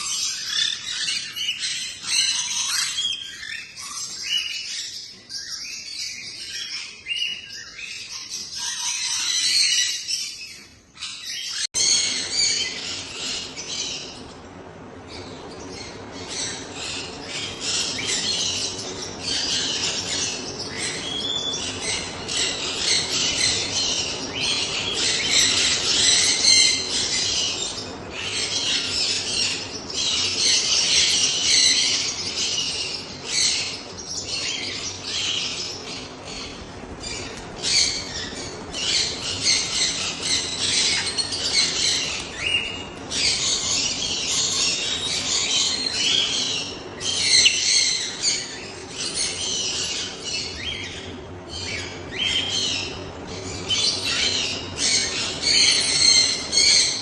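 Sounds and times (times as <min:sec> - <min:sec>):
parrots chattering and squawking: 0:00.0 - 0:14.4, 0:15.1 - 0:57.0.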